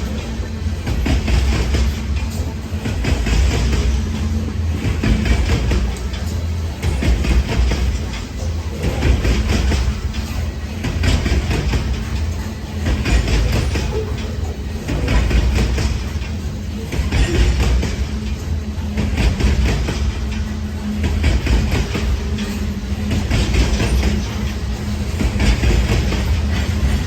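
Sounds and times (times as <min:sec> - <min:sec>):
train wheels rumbling on rail: 0:00.0 - 0:27.0
wheels clacking over rail joints: 0:00.0 - 0:27.0.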